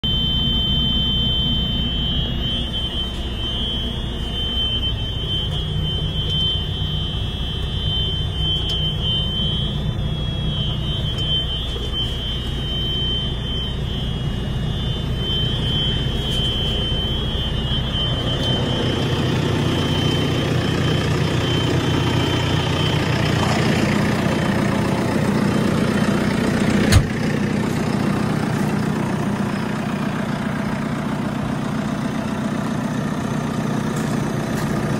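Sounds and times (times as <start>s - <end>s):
high-pitched warning buzzer: 0.0s - 32.7s
diesel engine idling: 0.0s - 34.9s.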